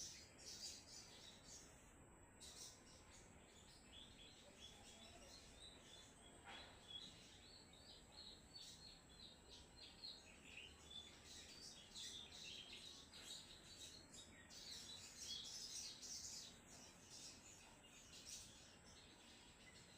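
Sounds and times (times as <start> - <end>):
bird singing high chirps: 0.0 - 19.9.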